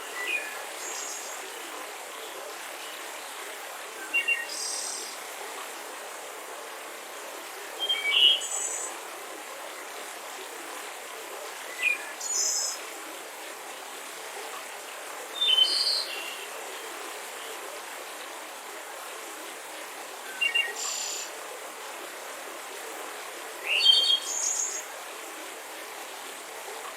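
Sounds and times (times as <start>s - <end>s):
steady background hiss: 0.0s - 26.9s.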